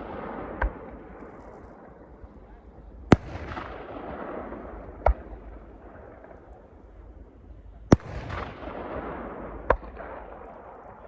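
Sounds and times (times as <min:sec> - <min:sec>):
low rumble of fireworks: 0:00.0 - 0:11.0.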